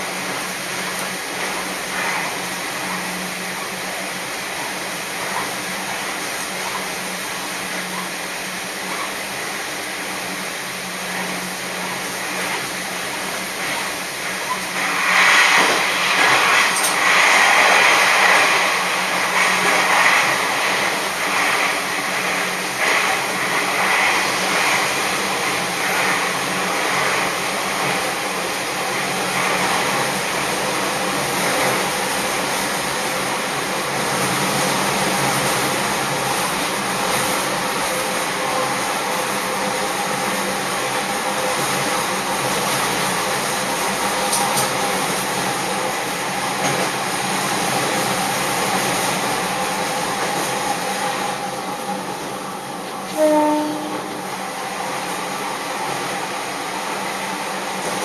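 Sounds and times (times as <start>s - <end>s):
railcar wheels running on rails: 0.0s - 58.0s.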